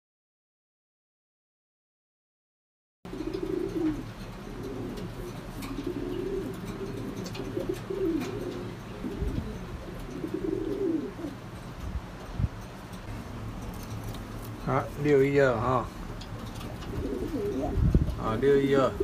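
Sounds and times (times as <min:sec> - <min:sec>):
pigeons cooing: 0:03.1 - 0:19.0.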